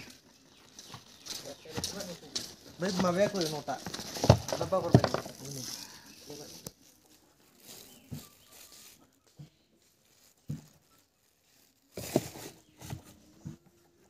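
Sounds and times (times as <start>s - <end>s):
plastic bag crinkling: 0.3s - 12.5s.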